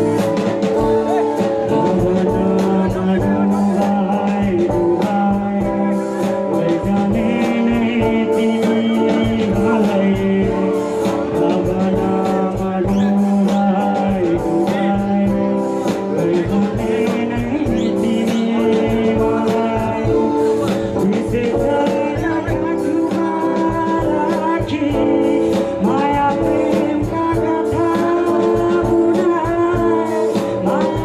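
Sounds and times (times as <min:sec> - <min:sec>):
drum kit: 0:00.0 - 0:31.0
person singing: 0:00.0 - 0:31.0.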